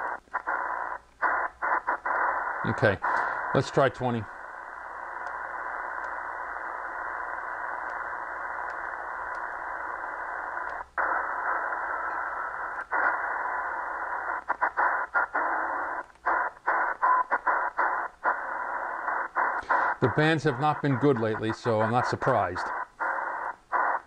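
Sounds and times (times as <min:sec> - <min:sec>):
radio speaker hissing: 0:00.0 - 0:24.0.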